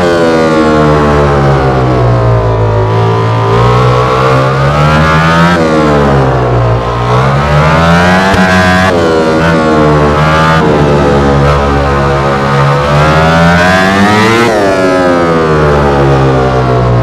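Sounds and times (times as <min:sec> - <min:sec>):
racing motorcycle engine revving: 0:00.0 - 0:17.0.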